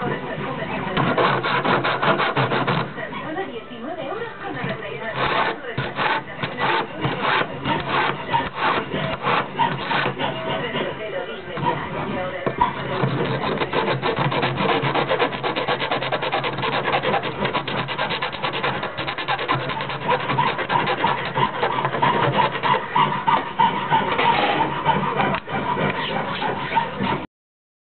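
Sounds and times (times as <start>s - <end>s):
rasping against abrasive block: 0.8s - 3.3s, 4.4s - 27.2s.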